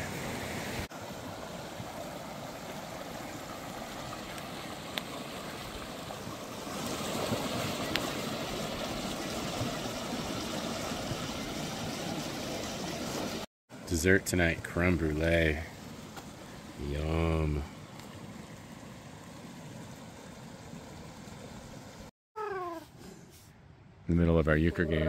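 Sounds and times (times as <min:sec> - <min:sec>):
mountain creek rushing: 0:00.0 - 0:22.1.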